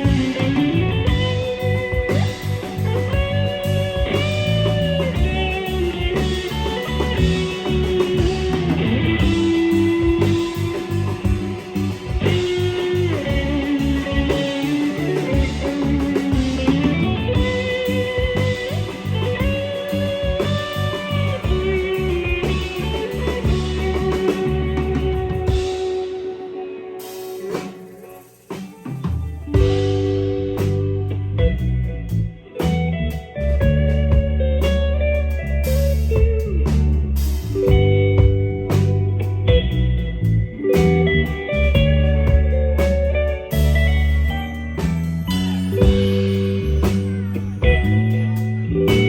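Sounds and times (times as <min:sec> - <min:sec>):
guitar-led instrumental music: 0:00.0 - 0:49.0.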